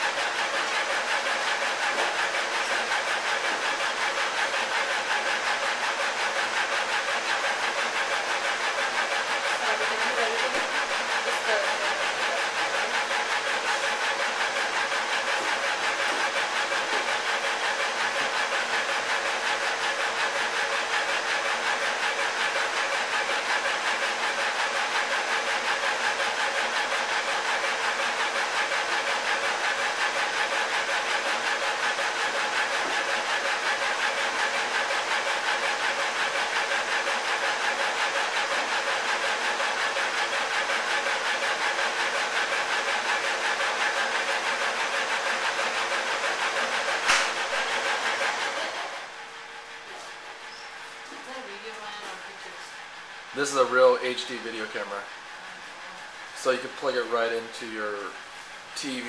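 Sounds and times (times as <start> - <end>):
laser engraver whirring and pulsing: 0.0 - 57.5.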